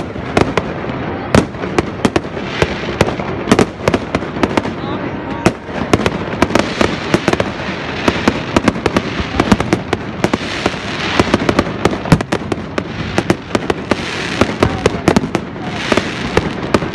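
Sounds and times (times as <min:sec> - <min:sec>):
fireworks cracking and banging: 0:00.0 - 0:16.9.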